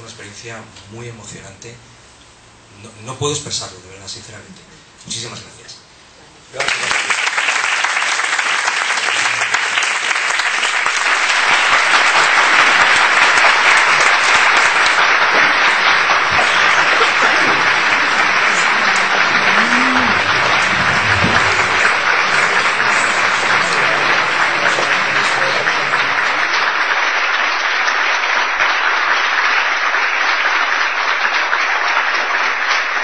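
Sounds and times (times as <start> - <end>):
audience applauding: 6.6 - 33.0.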